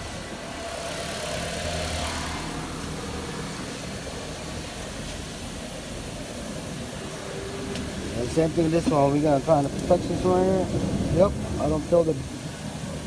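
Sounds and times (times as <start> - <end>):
car engine hum: 0.0 - 13.0
whir of spinning wheel: 0.0 - 13.0.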